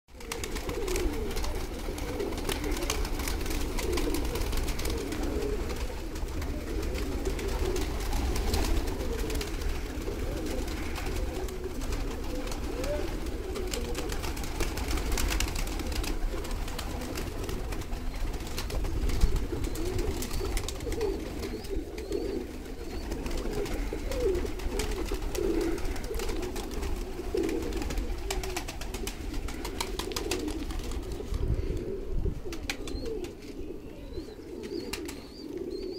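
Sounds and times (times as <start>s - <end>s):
wing flaps: 0.1s - 31.5s
pigeons cooing: 0.1s - 35.9s.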